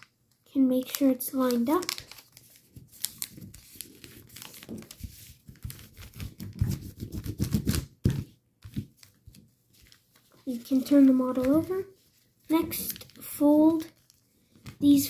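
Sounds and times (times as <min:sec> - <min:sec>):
paper crackle: 0:00.8 - 0:07.3, 0:08.7 - 0:15.0
paper crinkling and rustling: 0:00.8 - 0:07.8, 0:08.6 - 0:15.0.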